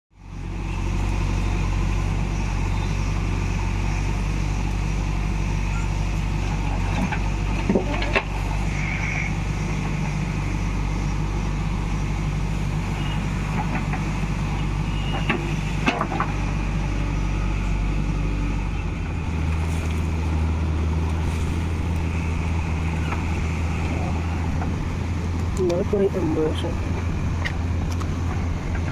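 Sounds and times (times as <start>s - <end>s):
diesel engine running: 0.1s - 28.9s.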